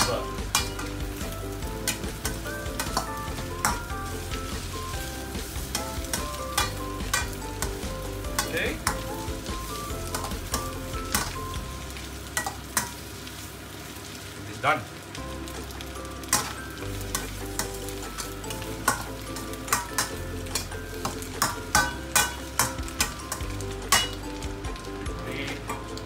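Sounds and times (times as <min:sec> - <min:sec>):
metal spatula scraping wok: 0:00.0 - 0:13.1, 0:16.2 - 0:24.4
noodles sizzling in a wok: 0:00.0 - 0:26.0.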